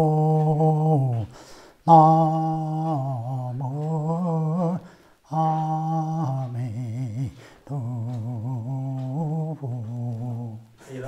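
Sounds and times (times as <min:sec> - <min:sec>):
man humming: 0:00.0 - 0:10.8.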